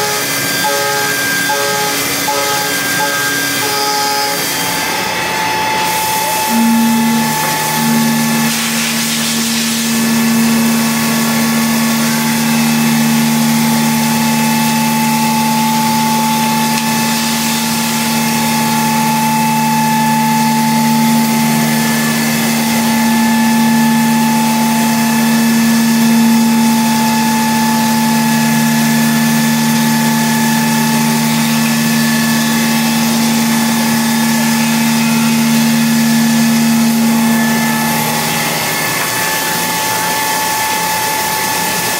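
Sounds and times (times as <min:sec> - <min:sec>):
high whine: 0:00.0 - 0:41.9
milling machine running: 0:00.0 - 0:41.9.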